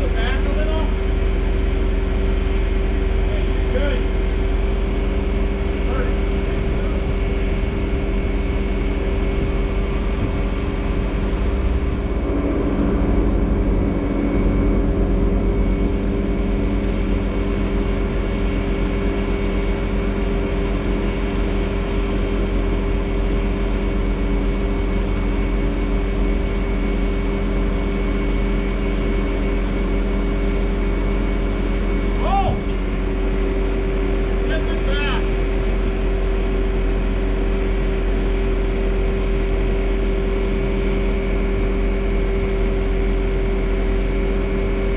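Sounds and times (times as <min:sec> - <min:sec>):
diesel engine running under load: 0:00.0 - 0:44.9
steady high whine: 0:00.0 - 0:44.9.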